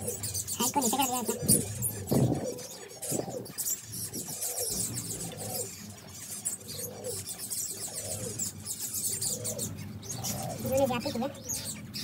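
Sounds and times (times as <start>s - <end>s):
finches chirping and twittering: 0.0s - 12.0s.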